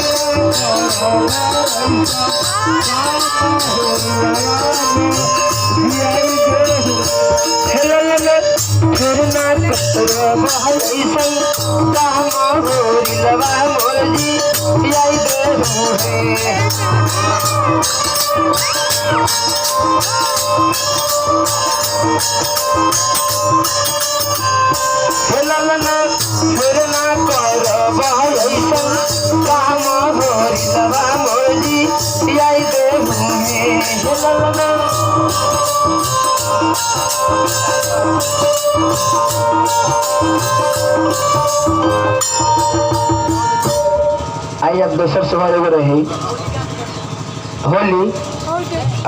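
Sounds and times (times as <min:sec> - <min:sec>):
folk melody: 0:00.0 - 0:49.0
jingling percussion: 0:00.0 - 0:49.0
steady drum beat: 0:00.0 - 0:49.0.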